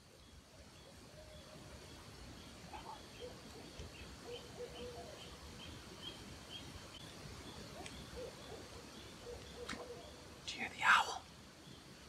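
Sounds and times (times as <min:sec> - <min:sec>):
faint birdsong chirps: 0:00.0 - 0:12.0
outdoor hiss: 0:00.0 - 0:12.0.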